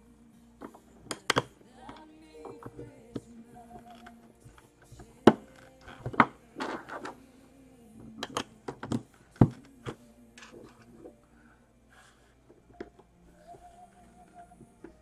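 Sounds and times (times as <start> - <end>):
faint holiday music: 0.0 - 15.0.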